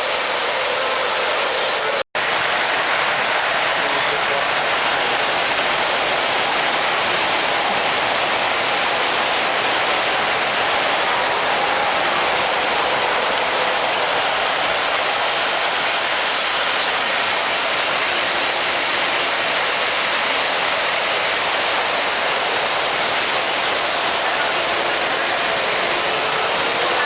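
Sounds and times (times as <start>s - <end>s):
model trains running on track: 0.0s - 27.0s.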